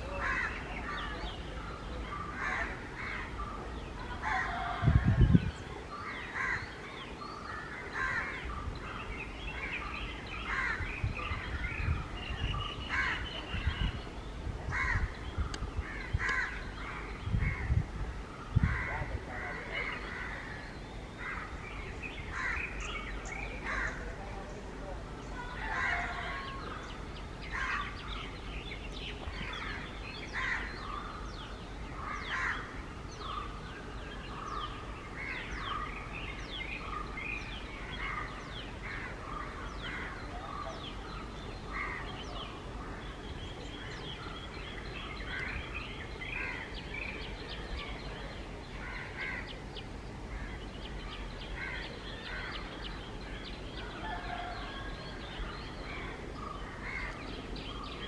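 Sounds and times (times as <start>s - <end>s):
birds chirping and calling: 0.0s - 58.0s
steady low background noise: 0.0s - 58.0s.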